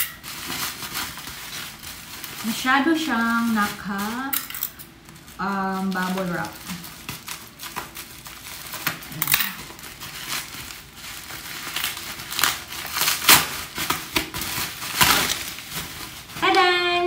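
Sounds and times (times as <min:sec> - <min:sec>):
bubble wrap crinkling and crackling: 0:00.0 - 0:17.0.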